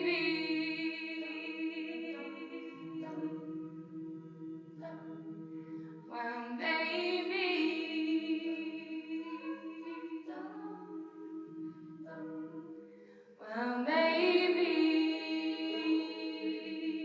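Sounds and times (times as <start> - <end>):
a cappella group singing chords: 0.0 - 17.0.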